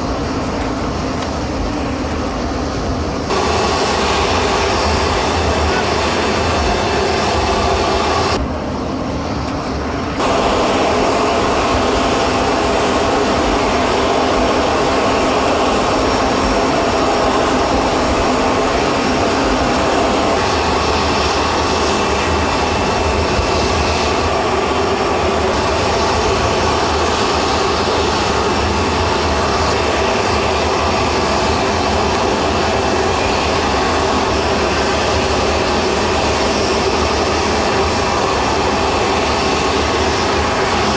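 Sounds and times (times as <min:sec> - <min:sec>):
jet engines rushing: 0:00.0 - 0:40.9.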